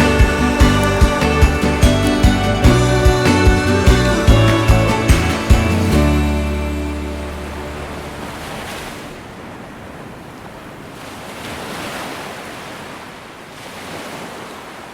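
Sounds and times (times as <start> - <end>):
waves washing ashore: 0.0 - 14.9.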